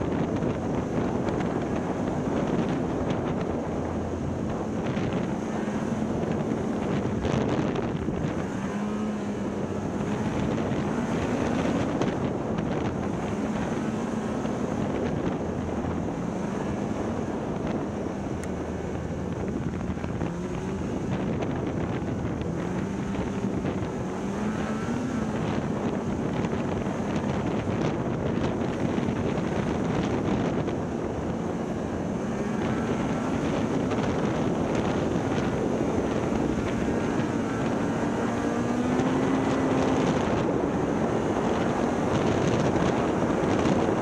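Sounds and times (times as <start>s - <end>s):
snowmobile engine running: 0.0s - 44.0s
wind on microphone: 0.0s - 44.0s.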